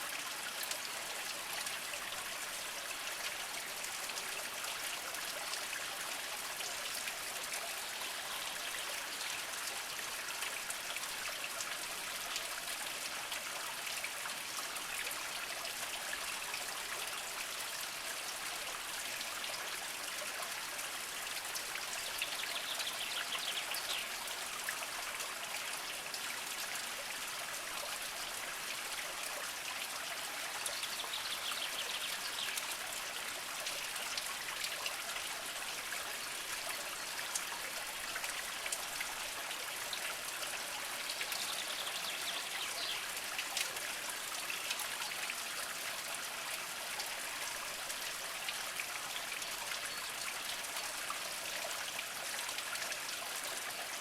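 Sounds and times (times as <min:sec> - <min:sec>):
spring water trickling over rocks: 0:00.0 - 0:54.0.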